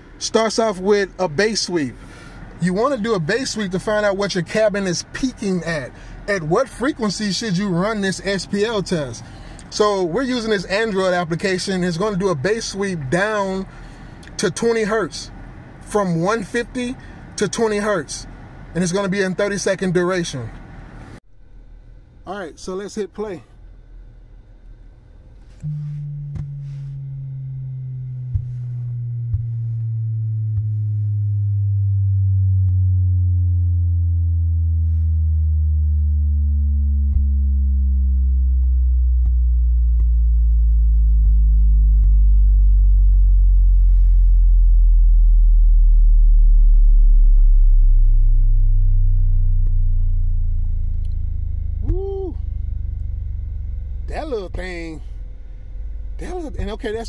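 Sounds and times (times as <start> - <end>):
subwoofer bass sweep: 0.0 - 17.0, 21.0 - 57.0.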